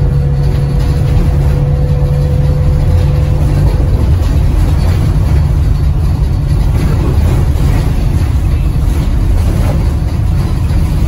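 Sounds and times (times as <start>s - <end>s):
bus cabin rumble of tyres on road: 0.0s - 11.0s.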